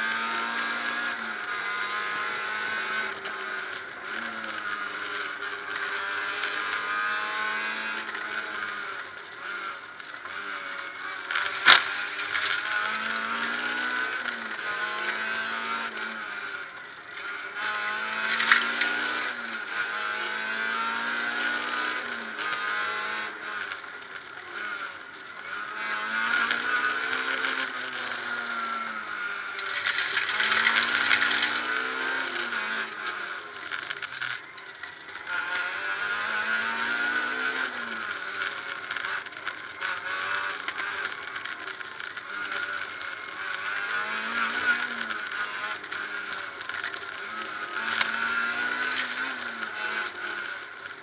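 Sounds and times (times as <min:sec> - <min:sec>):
car engine revving: 0:00.0 - 0:51.0
tyre and road noise: 0:00.0 - 0:51.0.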